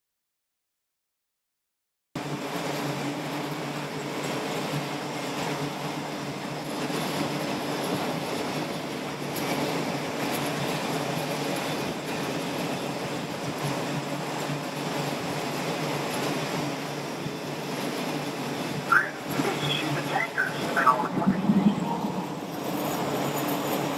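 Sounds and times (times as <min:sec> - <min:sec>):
high turbine whine: 0:02.2 - 0:23.9
jet engine rushing: 0:02.3 - 0:23.9.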